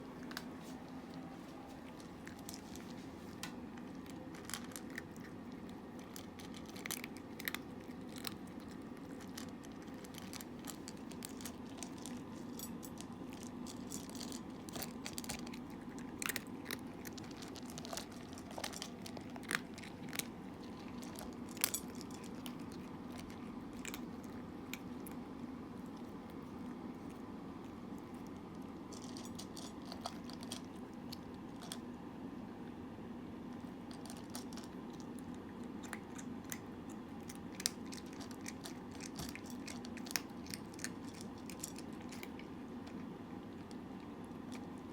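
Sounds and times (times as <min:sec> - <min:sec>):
cat chewing food: 0:00.0 - 0:44.9
low background hum: 0:00.0 - 0:44.9.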